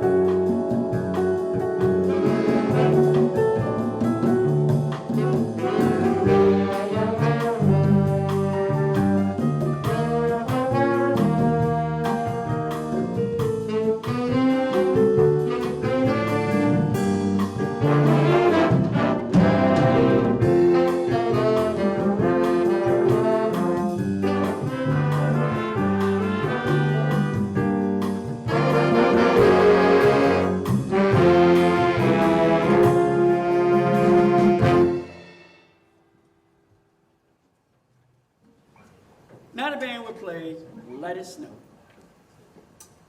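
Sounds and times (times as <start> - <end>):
brass ensemble playing: 0.0 - 36.1.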